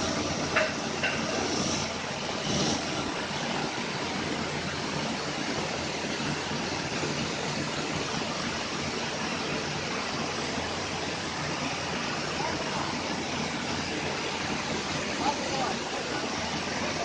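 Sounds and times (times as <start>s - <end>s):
flour mill machinery rushing: 0.0s - 17.0s.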